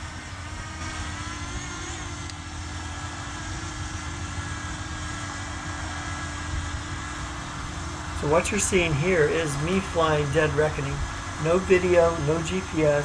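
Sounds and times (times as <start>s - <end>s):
drone rotors humming: 0.0s - 13.0s.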